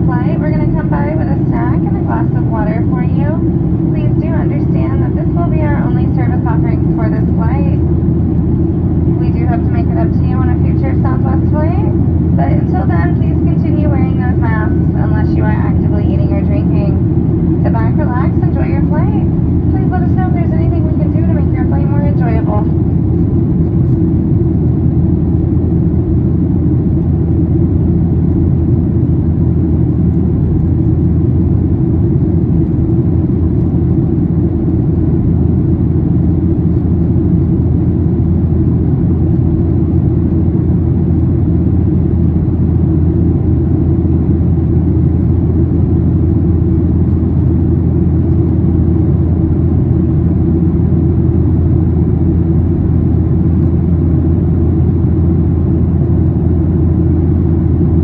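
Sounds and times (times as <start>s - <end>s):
airliner cabin rumble: 0.0s - 58.0s.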